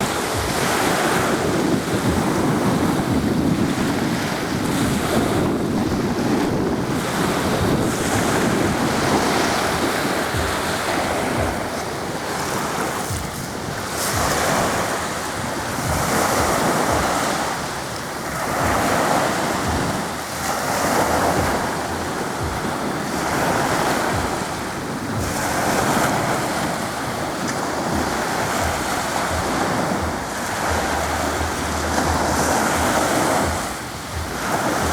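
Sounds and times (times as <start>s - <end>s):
sea waves washing onto shore: 0.0s - 34.9s
wind buffeting microphone: 0.0s - 34.9s.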